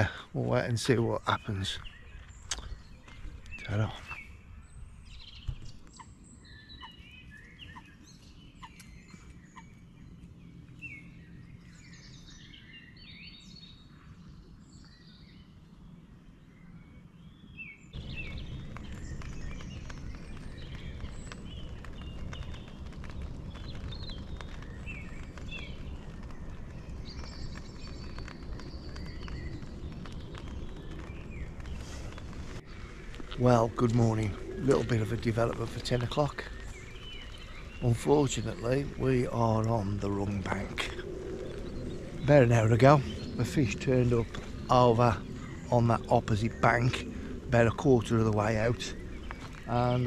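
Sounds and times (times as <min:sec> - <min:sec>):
birds singing and chirping: 0:00.0 - 0:50.0
steady low rumble: 0:00.0 - 0:50.0.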